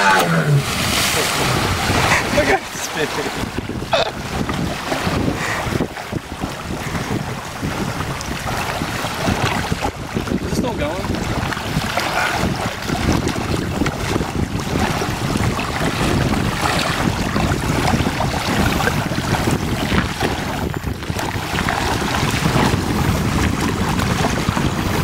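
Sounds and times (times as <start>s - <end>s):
small waves washing: 0.0s - 25.0s
wind buffeting microphone: 0.0s - 25.0s.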